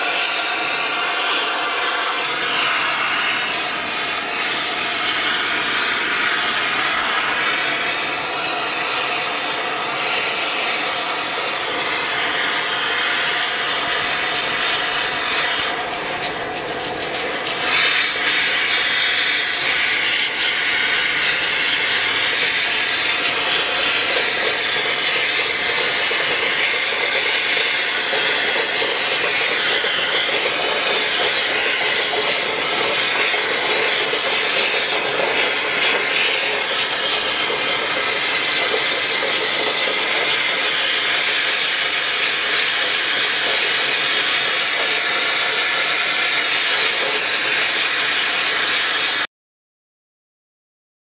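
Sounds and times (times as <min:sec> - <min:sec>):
gas torch hissing: 0:00.0 - 0:49.3.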